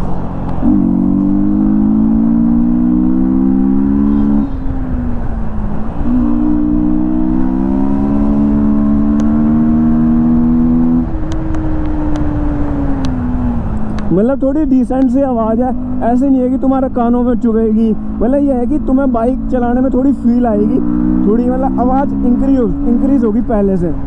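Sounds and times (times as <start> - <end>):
motorcycle engine accelerating: 0.0 - 14.2, 14.9 - 23.5.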